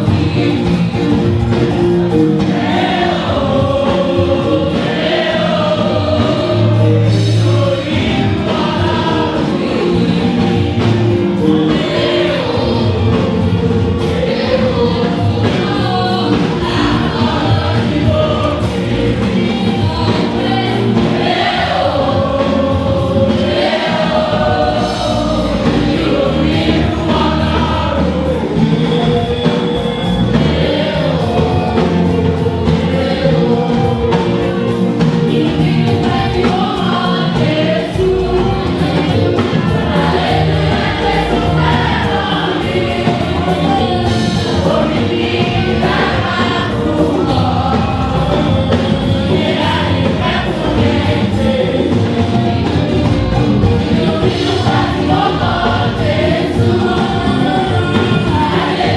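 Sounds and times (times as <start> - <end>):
choir singing a hymn: 0.0 - 58.9
instrumental backing with beat: 0.0 - 58.9.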